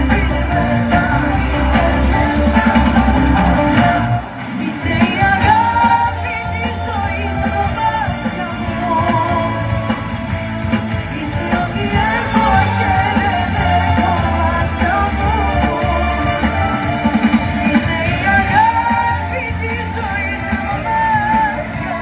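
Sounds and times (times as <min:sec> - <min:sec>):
live band playing pop song: 0:00.0 - 0:22.0.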